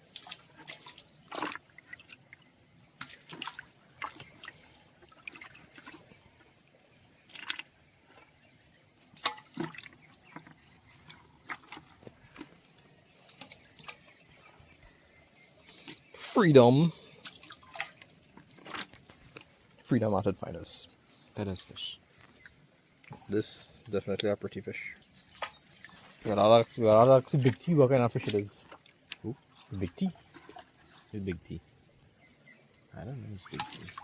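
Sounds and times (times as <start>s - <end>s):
water splashes and drips: 0.0s - 20.6s, 21.4s - 31.8s, 33.0s - 34.0s.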